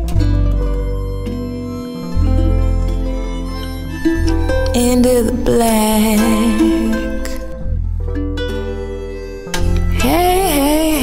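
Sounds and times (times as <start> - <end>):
low bass tone: 0.0 - 11.0
plucked guitar notes: 0.0 - 11.0.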